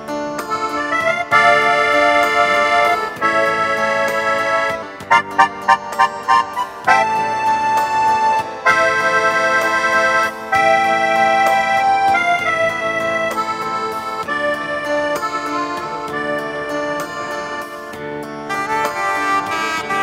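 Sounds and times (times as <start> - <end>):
instrumental music with steady beat: 0.0 - 20.0.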